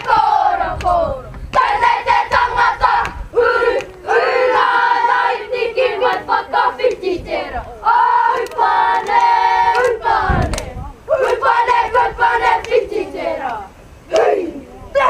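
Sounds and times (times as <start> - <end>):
children chanting in unison: 0.0 - 15.0.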